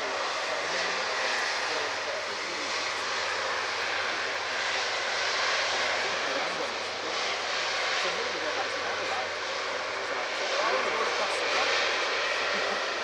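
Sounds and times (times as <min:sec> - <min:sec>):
airliner engines rushing: 0:00.0 - 0:13.0.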